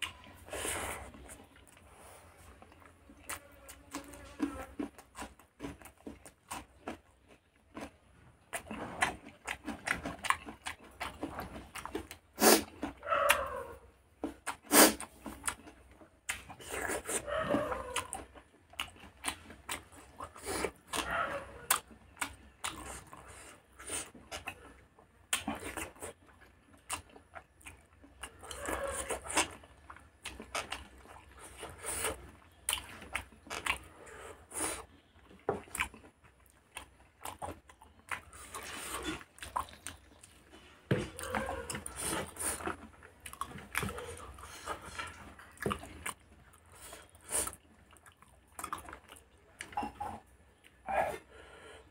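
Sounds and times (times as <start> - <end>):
wet chewing and lip-smacking: 0.0 - 50.9.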